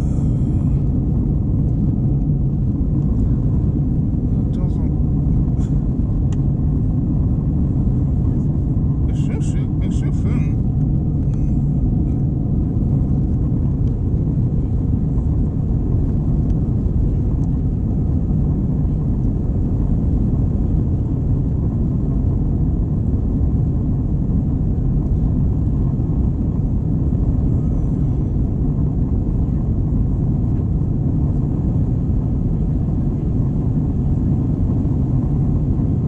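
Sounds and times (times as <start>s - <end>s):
airplane cabin engine rumble: 0.0s - 36.0s.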